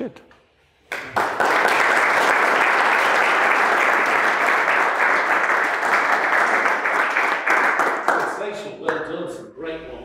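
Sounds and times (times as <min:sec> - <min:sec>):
audience applauding: 0:00.9 - 0:09.0.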